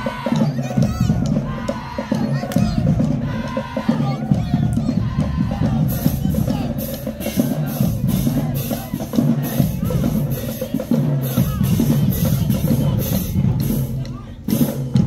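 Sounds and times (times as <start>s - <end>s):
bass and snare drums: 0.0s - 15.0s.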